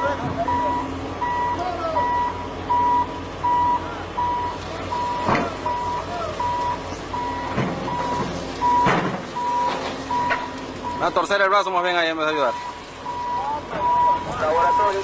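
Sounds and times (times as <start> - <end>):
reversing alarm beeping: 0.4 - 11.4, 12.3 - 15.0.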